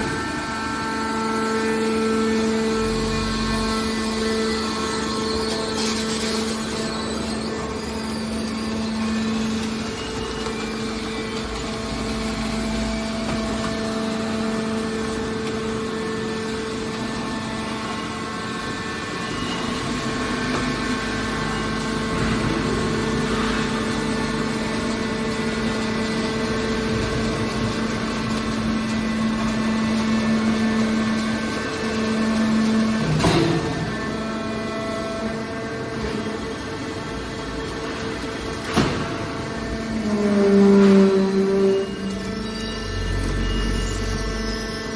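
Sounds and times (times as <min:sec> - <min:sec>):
machine humming: 0:00.0 - 0:44.9.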